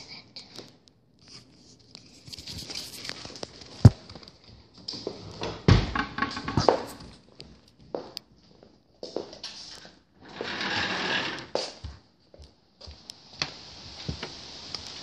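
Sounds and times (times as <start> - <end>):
footsteps: 1.3 - 5.4, 6.2 - 14.3.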